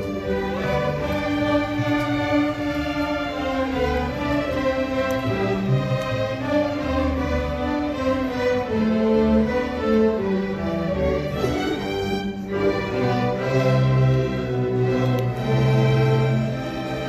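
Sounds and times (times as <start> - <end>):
bowed strings: 0.0 - 17.0
orchestra playing held chords: 0.0 - 17.0.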